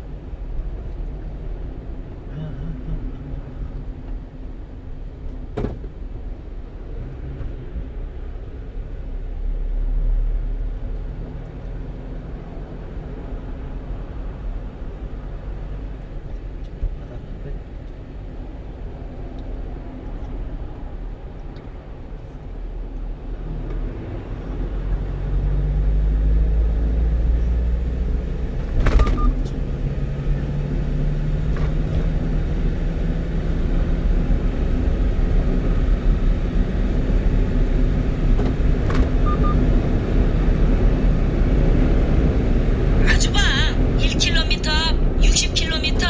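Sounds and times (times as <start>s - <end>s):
truck engine and road noise: 0.0s - 46.0s.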